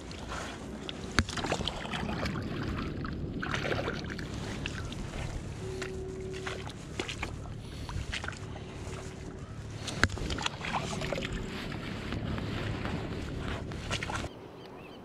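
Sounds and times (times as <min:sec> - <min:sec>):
wet splashing: 0:00.0 - 0:14.3
wind rumbling on microphone: 0:00.0 - 0:15.0.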